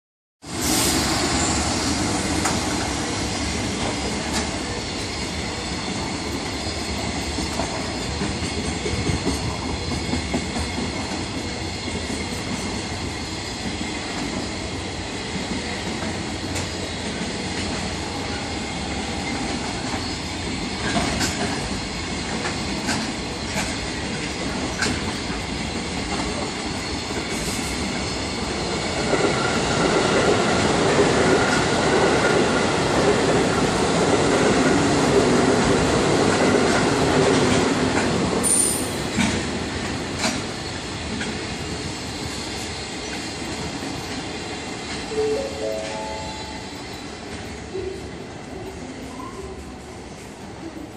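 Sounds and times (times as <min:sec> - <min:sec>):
freight train rumbling: 0:00.4 - 0:50.9.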